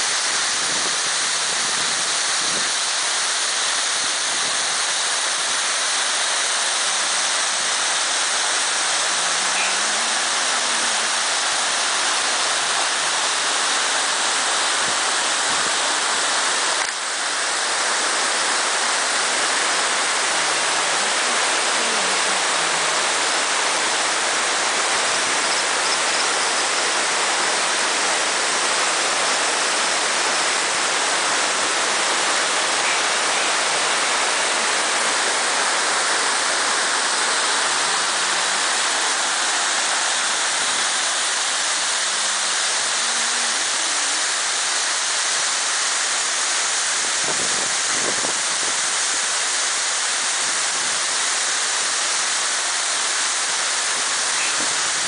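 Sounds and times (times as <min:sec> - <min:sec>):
stream cascading over boulders: 0:00.0 - 0:55.0.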